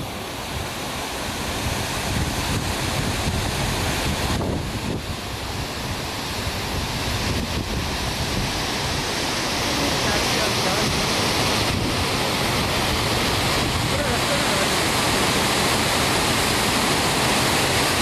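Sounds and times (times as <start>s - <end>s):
waterfall rushing: 0.0s - 18.0s
wind buffeting microphone: 1.4s - 17.2s.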